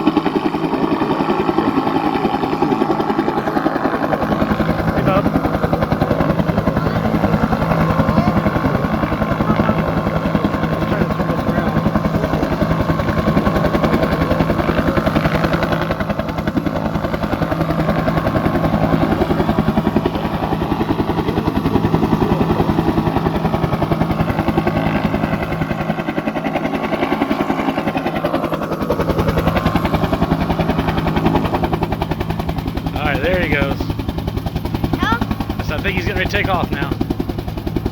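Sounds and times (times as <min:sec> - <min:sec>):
helicopter rotor chopping: 0:00.0 - 0:37.9
turbine engine whine: 0:00.0 - 0:37.9.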